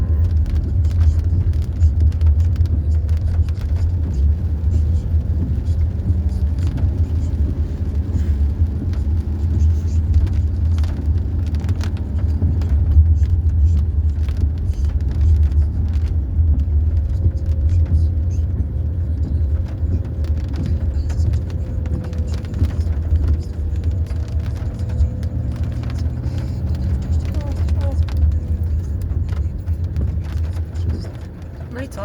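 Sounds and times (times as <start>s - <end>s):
car cabin rumble: 0.0s - 32.0s
knocks and rattles on rough road: 0.0s - 32.0s.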